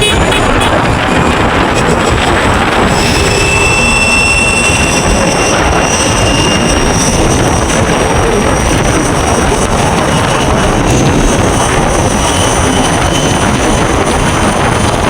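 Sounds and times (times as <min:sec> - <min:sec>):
high electric motor whine: 0:00.0 - 0:15.0
wind and road noise: 0:00.0 - 0:15.0.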